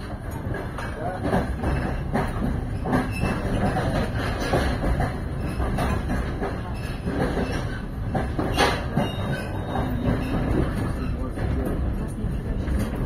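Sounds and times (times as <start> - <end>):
train carriage rumble: 0.0 - 13.0
wheels clacking over rail joints: 0.0 - 13.0.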